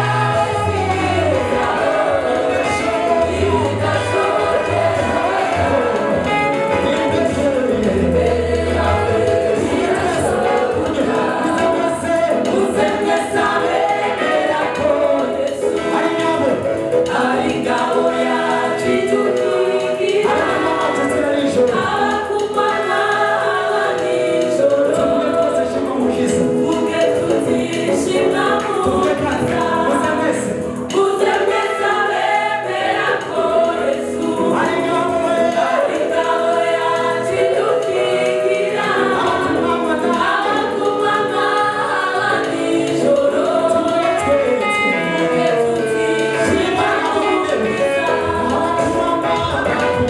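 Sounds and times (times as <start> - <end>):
choir singing gospel song: 0.0 - 50.0.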